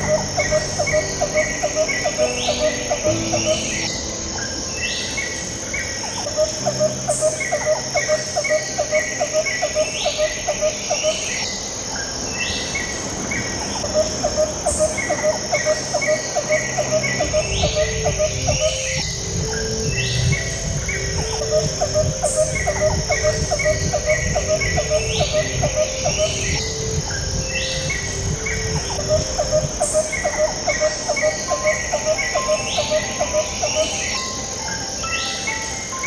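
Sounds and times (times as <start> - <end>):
bird-like calls: 0.0 - 36.0
calm background music: 0.0 - 36.0
cricket-like chirping: 0.0 - 36.0.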